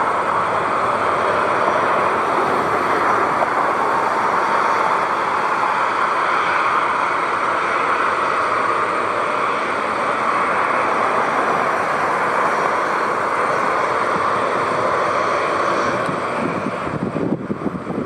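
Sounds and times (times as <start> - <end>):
jet airliner engines rushing: 0.0 - 18.0.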